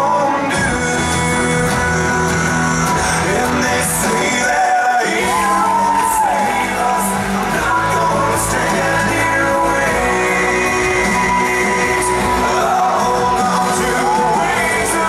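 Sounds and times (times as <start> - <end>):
music with singing voice: 0.0 - 15.0.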